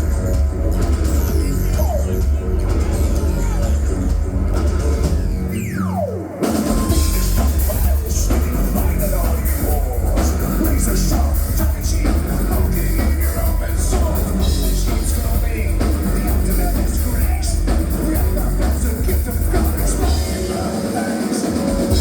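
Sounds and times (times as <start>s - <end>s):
distorted bass: 0.0s - 22.0s
electronic beats: 0.0s - 22.0s
industrial rock band playing: 0.0s - 22.0s.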